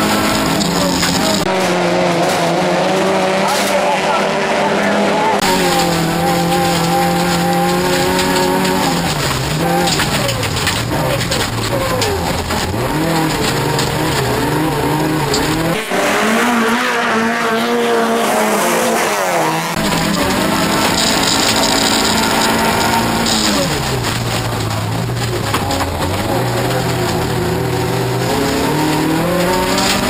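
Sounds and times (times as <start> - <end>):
car engine revving: 0.0 - 30.0
racing engines from trackside: 0.0 - 30.0.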